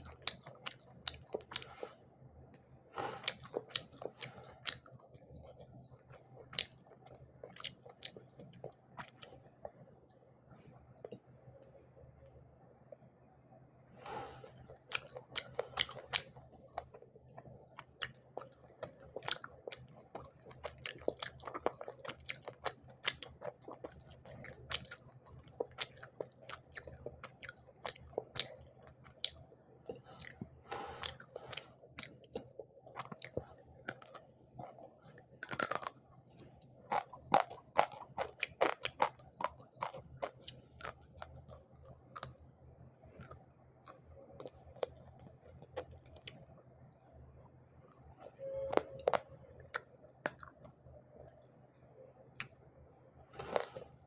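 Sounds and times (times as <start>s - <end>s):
chewing with wet mouth clicks: 0.0s - 2.6s, 3.2s - 10.2s, 14.6s - 51.5s, 52.3s - 52.8s.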